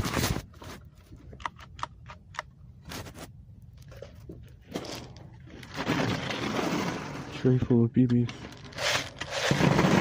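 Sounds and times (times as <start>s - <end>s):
rustling scraping noise: 0.0s - 1.2s, 2.8s - 10.0s.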